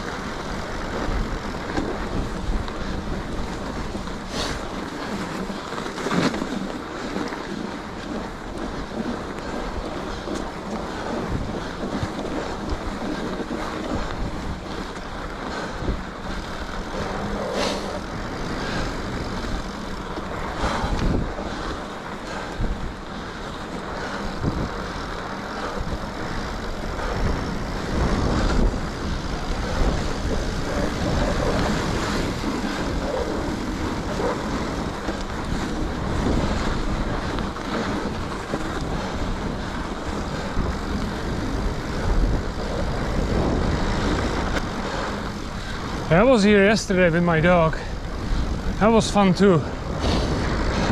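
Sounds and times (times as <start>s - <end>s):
tyres on snow: 0.0s - 50.9s
wind rushing over microphone: 0.0s - 50.9s.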